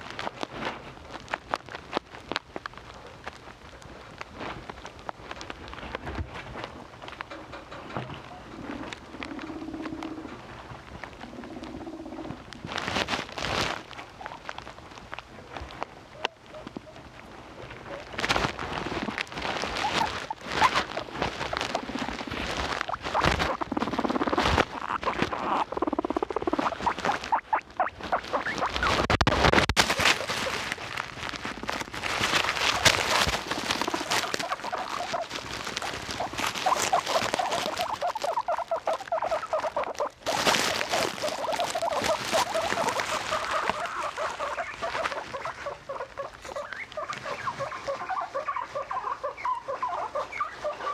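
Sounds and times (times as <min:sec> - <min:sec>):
rustling patter: 0:00.0 - 0:50.9
guinea pigs squeaking: 0:00.2 - 0:50.9.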